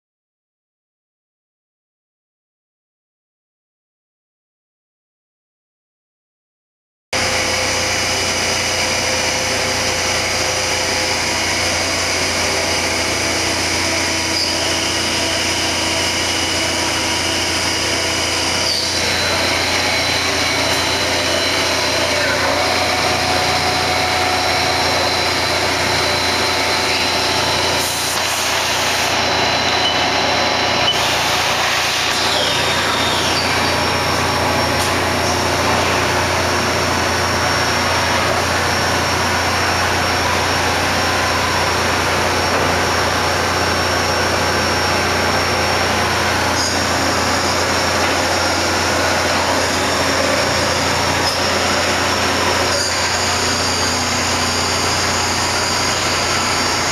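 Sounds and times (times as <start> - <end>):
milling machine hum and whine: 7.2 - 56.9.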